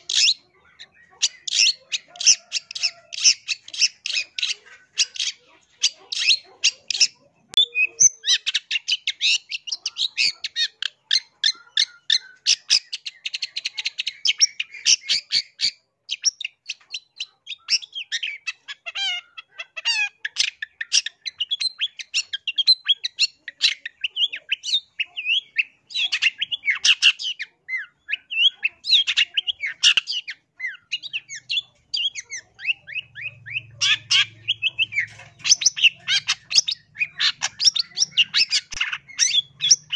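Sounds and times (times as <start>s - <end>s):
bird singing fast chatter: 0.0s - 39.9s.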